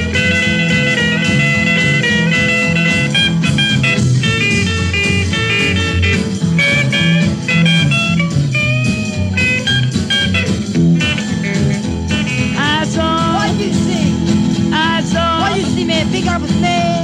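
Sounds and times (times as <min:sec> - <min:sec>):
lead guitar bending notes: 0:00.0 - 0:17.0
rock and roll band playing: 0:00.0 - 0:17.0.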